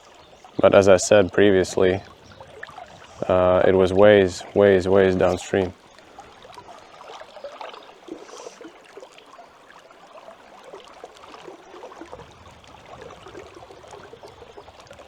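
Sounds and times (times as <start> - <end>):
river water gurgling over rocks: 0.0 - 15.0.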